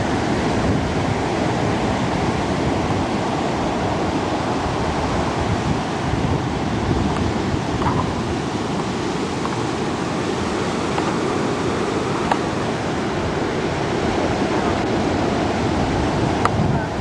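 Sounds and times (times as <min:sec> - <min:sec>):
breaking ocean waves: 0:00.0 - 0:17.0.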